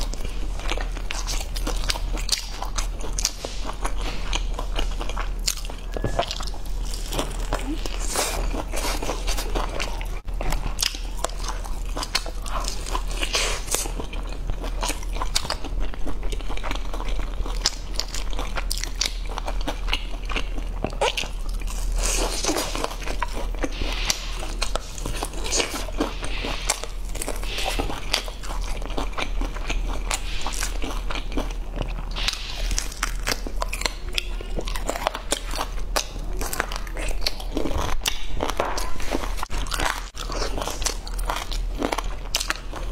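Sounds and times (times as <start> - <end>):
crunchy chewing of fried meat: 0.0 - 42.9.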